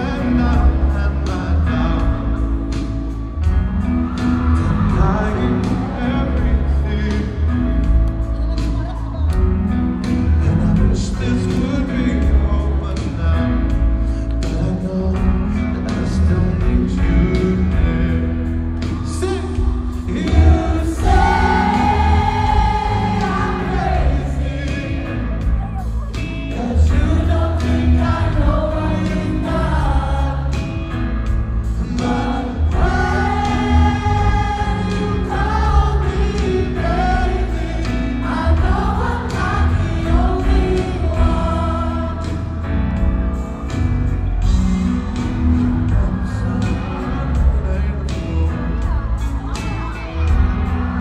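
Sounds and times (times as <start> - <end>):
band with heavy bass: 0.0 - 51.0.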